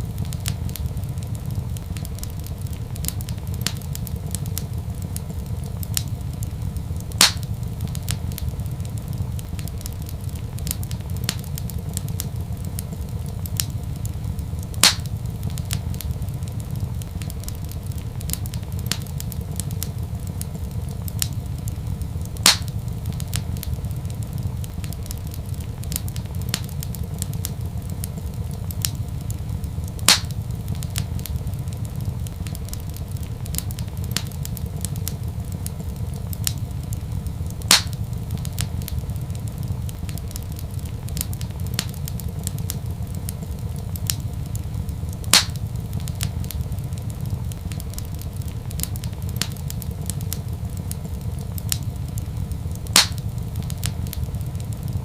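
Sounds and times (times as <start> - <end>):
loud pops of burning wood: 0.0 - 55.0
low rumble of flame: 0.0 - 55.0
wood fire crackling: 0.0 - 55.0.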